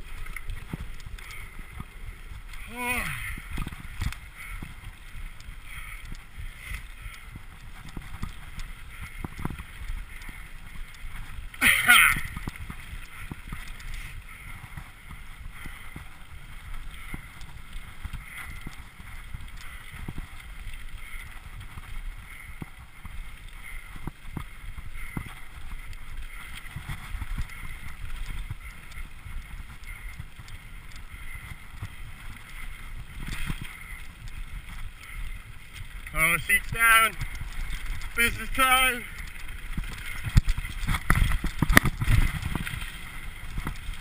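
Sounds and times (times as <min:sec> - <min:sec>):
bike rattling over bumps: 0:00.0 - 0:44.0
wind buffeting microphone: 0:00.0 - 0:44.0.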